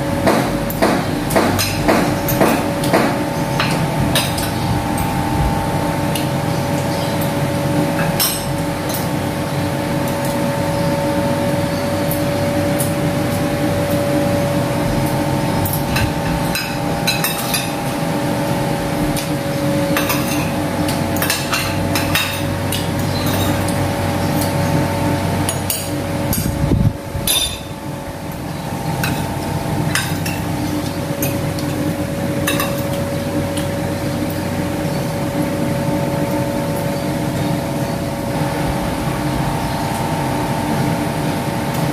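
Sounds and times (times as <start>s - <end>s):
steady mechanical hum: 0.0s - 41.9s.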